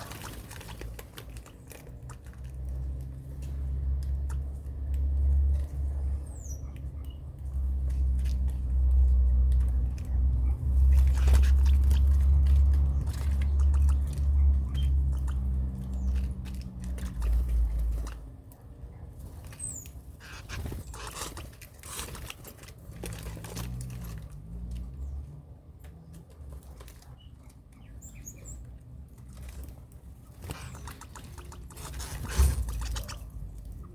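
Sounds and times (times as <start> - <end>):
small birds chirping: 0.0 - 22.6, 24.0 - 33.9.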